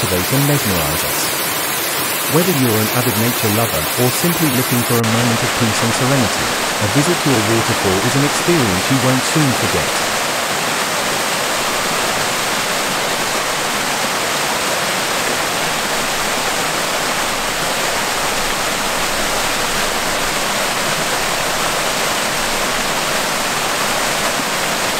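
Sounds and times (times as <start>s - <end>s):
small waterfall pouring over rocks: 0.0s - 24.9s.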